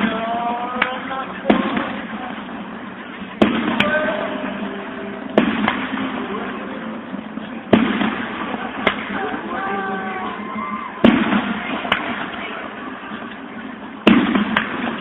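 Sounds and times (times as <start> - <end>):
fireworks bursting with echo: 0.0 - 15.0.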